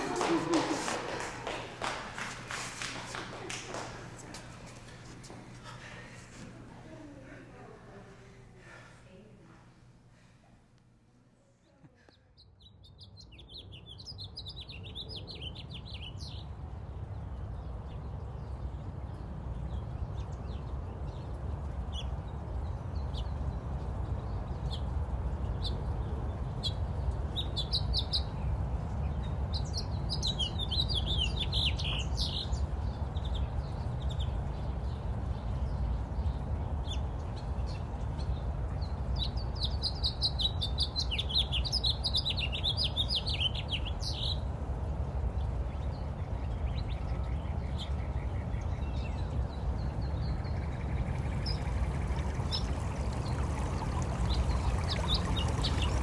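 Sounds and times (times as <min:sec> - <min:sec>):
birds chirping: 0:00.0 - 0:09.2, 0:12.0 - 0:56.0.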